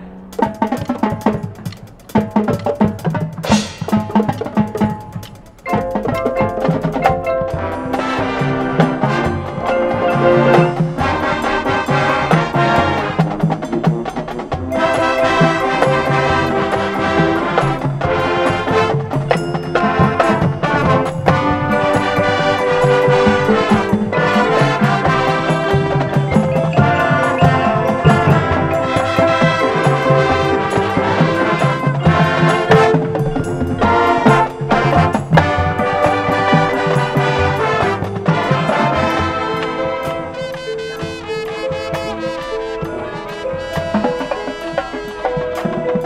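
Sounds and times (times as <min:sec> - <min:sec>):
drums: 0:00.0 - 0:46.0
marching band playing: 0:00.0 - 0:46.0
marimba: 0:00.0 - 0:46.0
sustained brass chords: 0:05.7 - 0:46.0.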